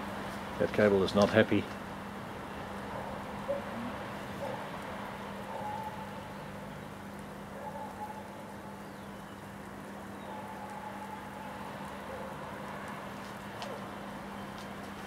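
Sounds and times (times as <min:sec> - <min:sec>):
cable insulation sizzling and crackling: 0:00.0 - 0:15.0.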